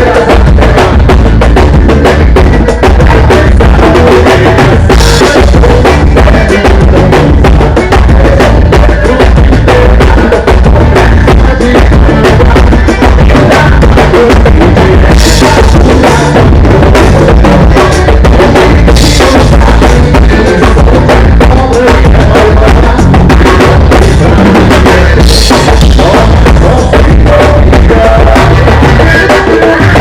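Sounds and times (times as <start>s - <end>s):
live band playing loudly: 0.0s - 30.0s.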